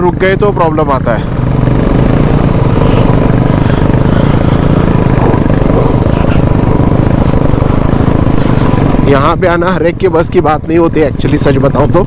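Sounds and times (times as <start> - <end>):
motorcycle engine climbing: 0.0 - 12.0.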